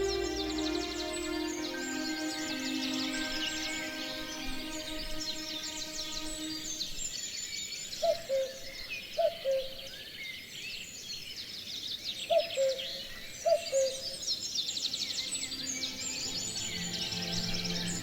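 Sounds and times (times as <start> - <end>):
cuckoo calling: 0.0 - 7.0, 8.0 - 9.8, 12.3 - 18.0
songbirds trilling: 0.0 - 18.0.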